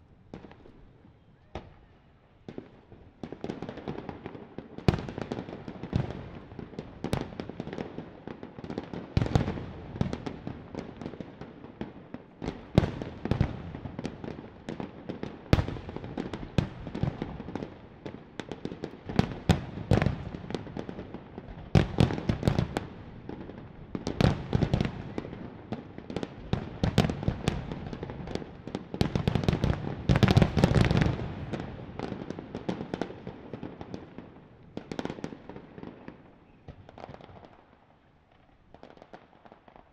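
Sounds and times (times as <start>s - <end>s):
fireworks bursting and crackling: 2.5s - 39.9s.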